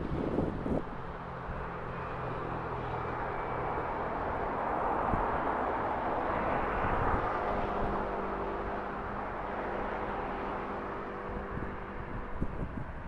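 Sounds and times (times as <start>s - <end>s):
low engine hum: 0.0s - 13.0s
road traffic rushing: 0.0s - 13.0s.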